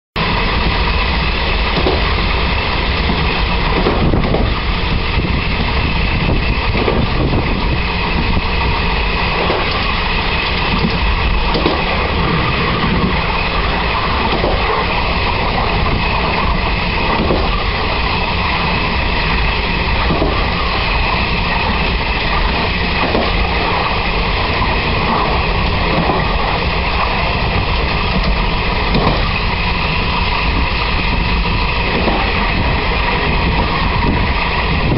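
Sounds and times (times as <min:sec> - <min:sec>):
wheels rumbling on rail: 0:00.2 - 0:34.9.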